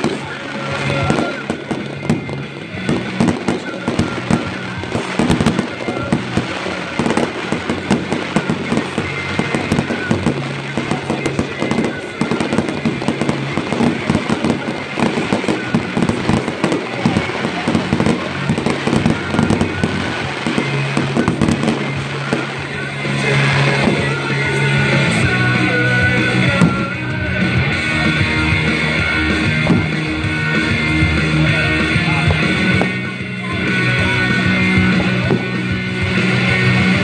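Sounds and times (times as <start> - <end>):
fireworks launching and bursting: 0.0 - 37.0
music: 0.0 - 37.0.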